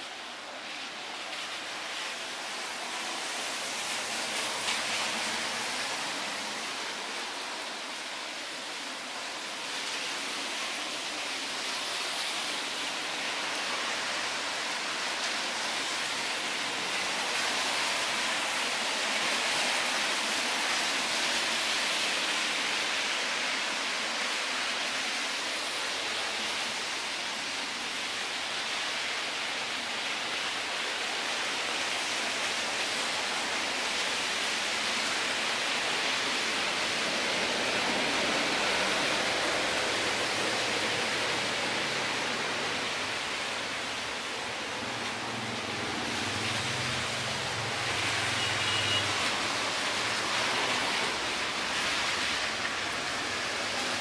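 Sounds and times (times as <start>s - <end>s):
rushing water hiss: 0.0s - 54.0s.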